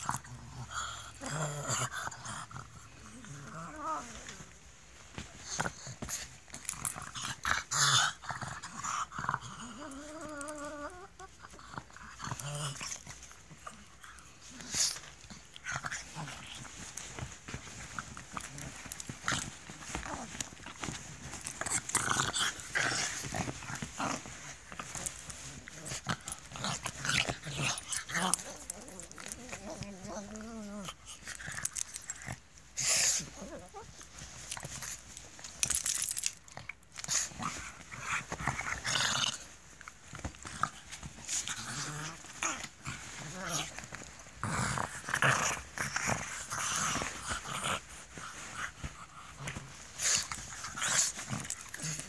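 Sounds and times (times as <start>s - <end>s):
dog wavering growl: 0.0s - 4.6s, 7.1s - 34.0s, 40.4s - 52.0s
dog play-growling and snorting: 0.0s - 52.0s
rustling of fur and bedding: 0.0s - 52.0s.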